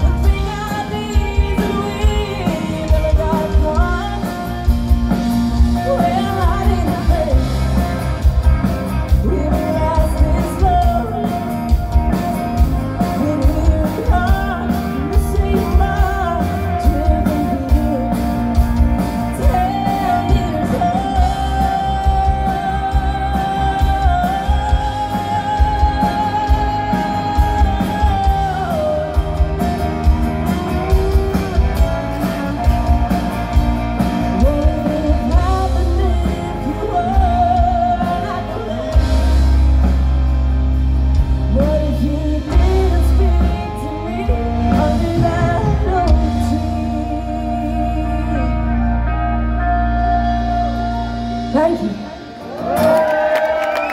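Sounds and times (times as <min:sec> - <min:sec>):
woman singing with vibrato: 0:00.0 - 0:07.8, 0:09.1 - 0:11.9, 0:13.0 - 0:32.7, 0:34.3 - 0:39.4, 0:41.5 - 0:50.3
live country-rock band: 0:00.0 - 0:53.9.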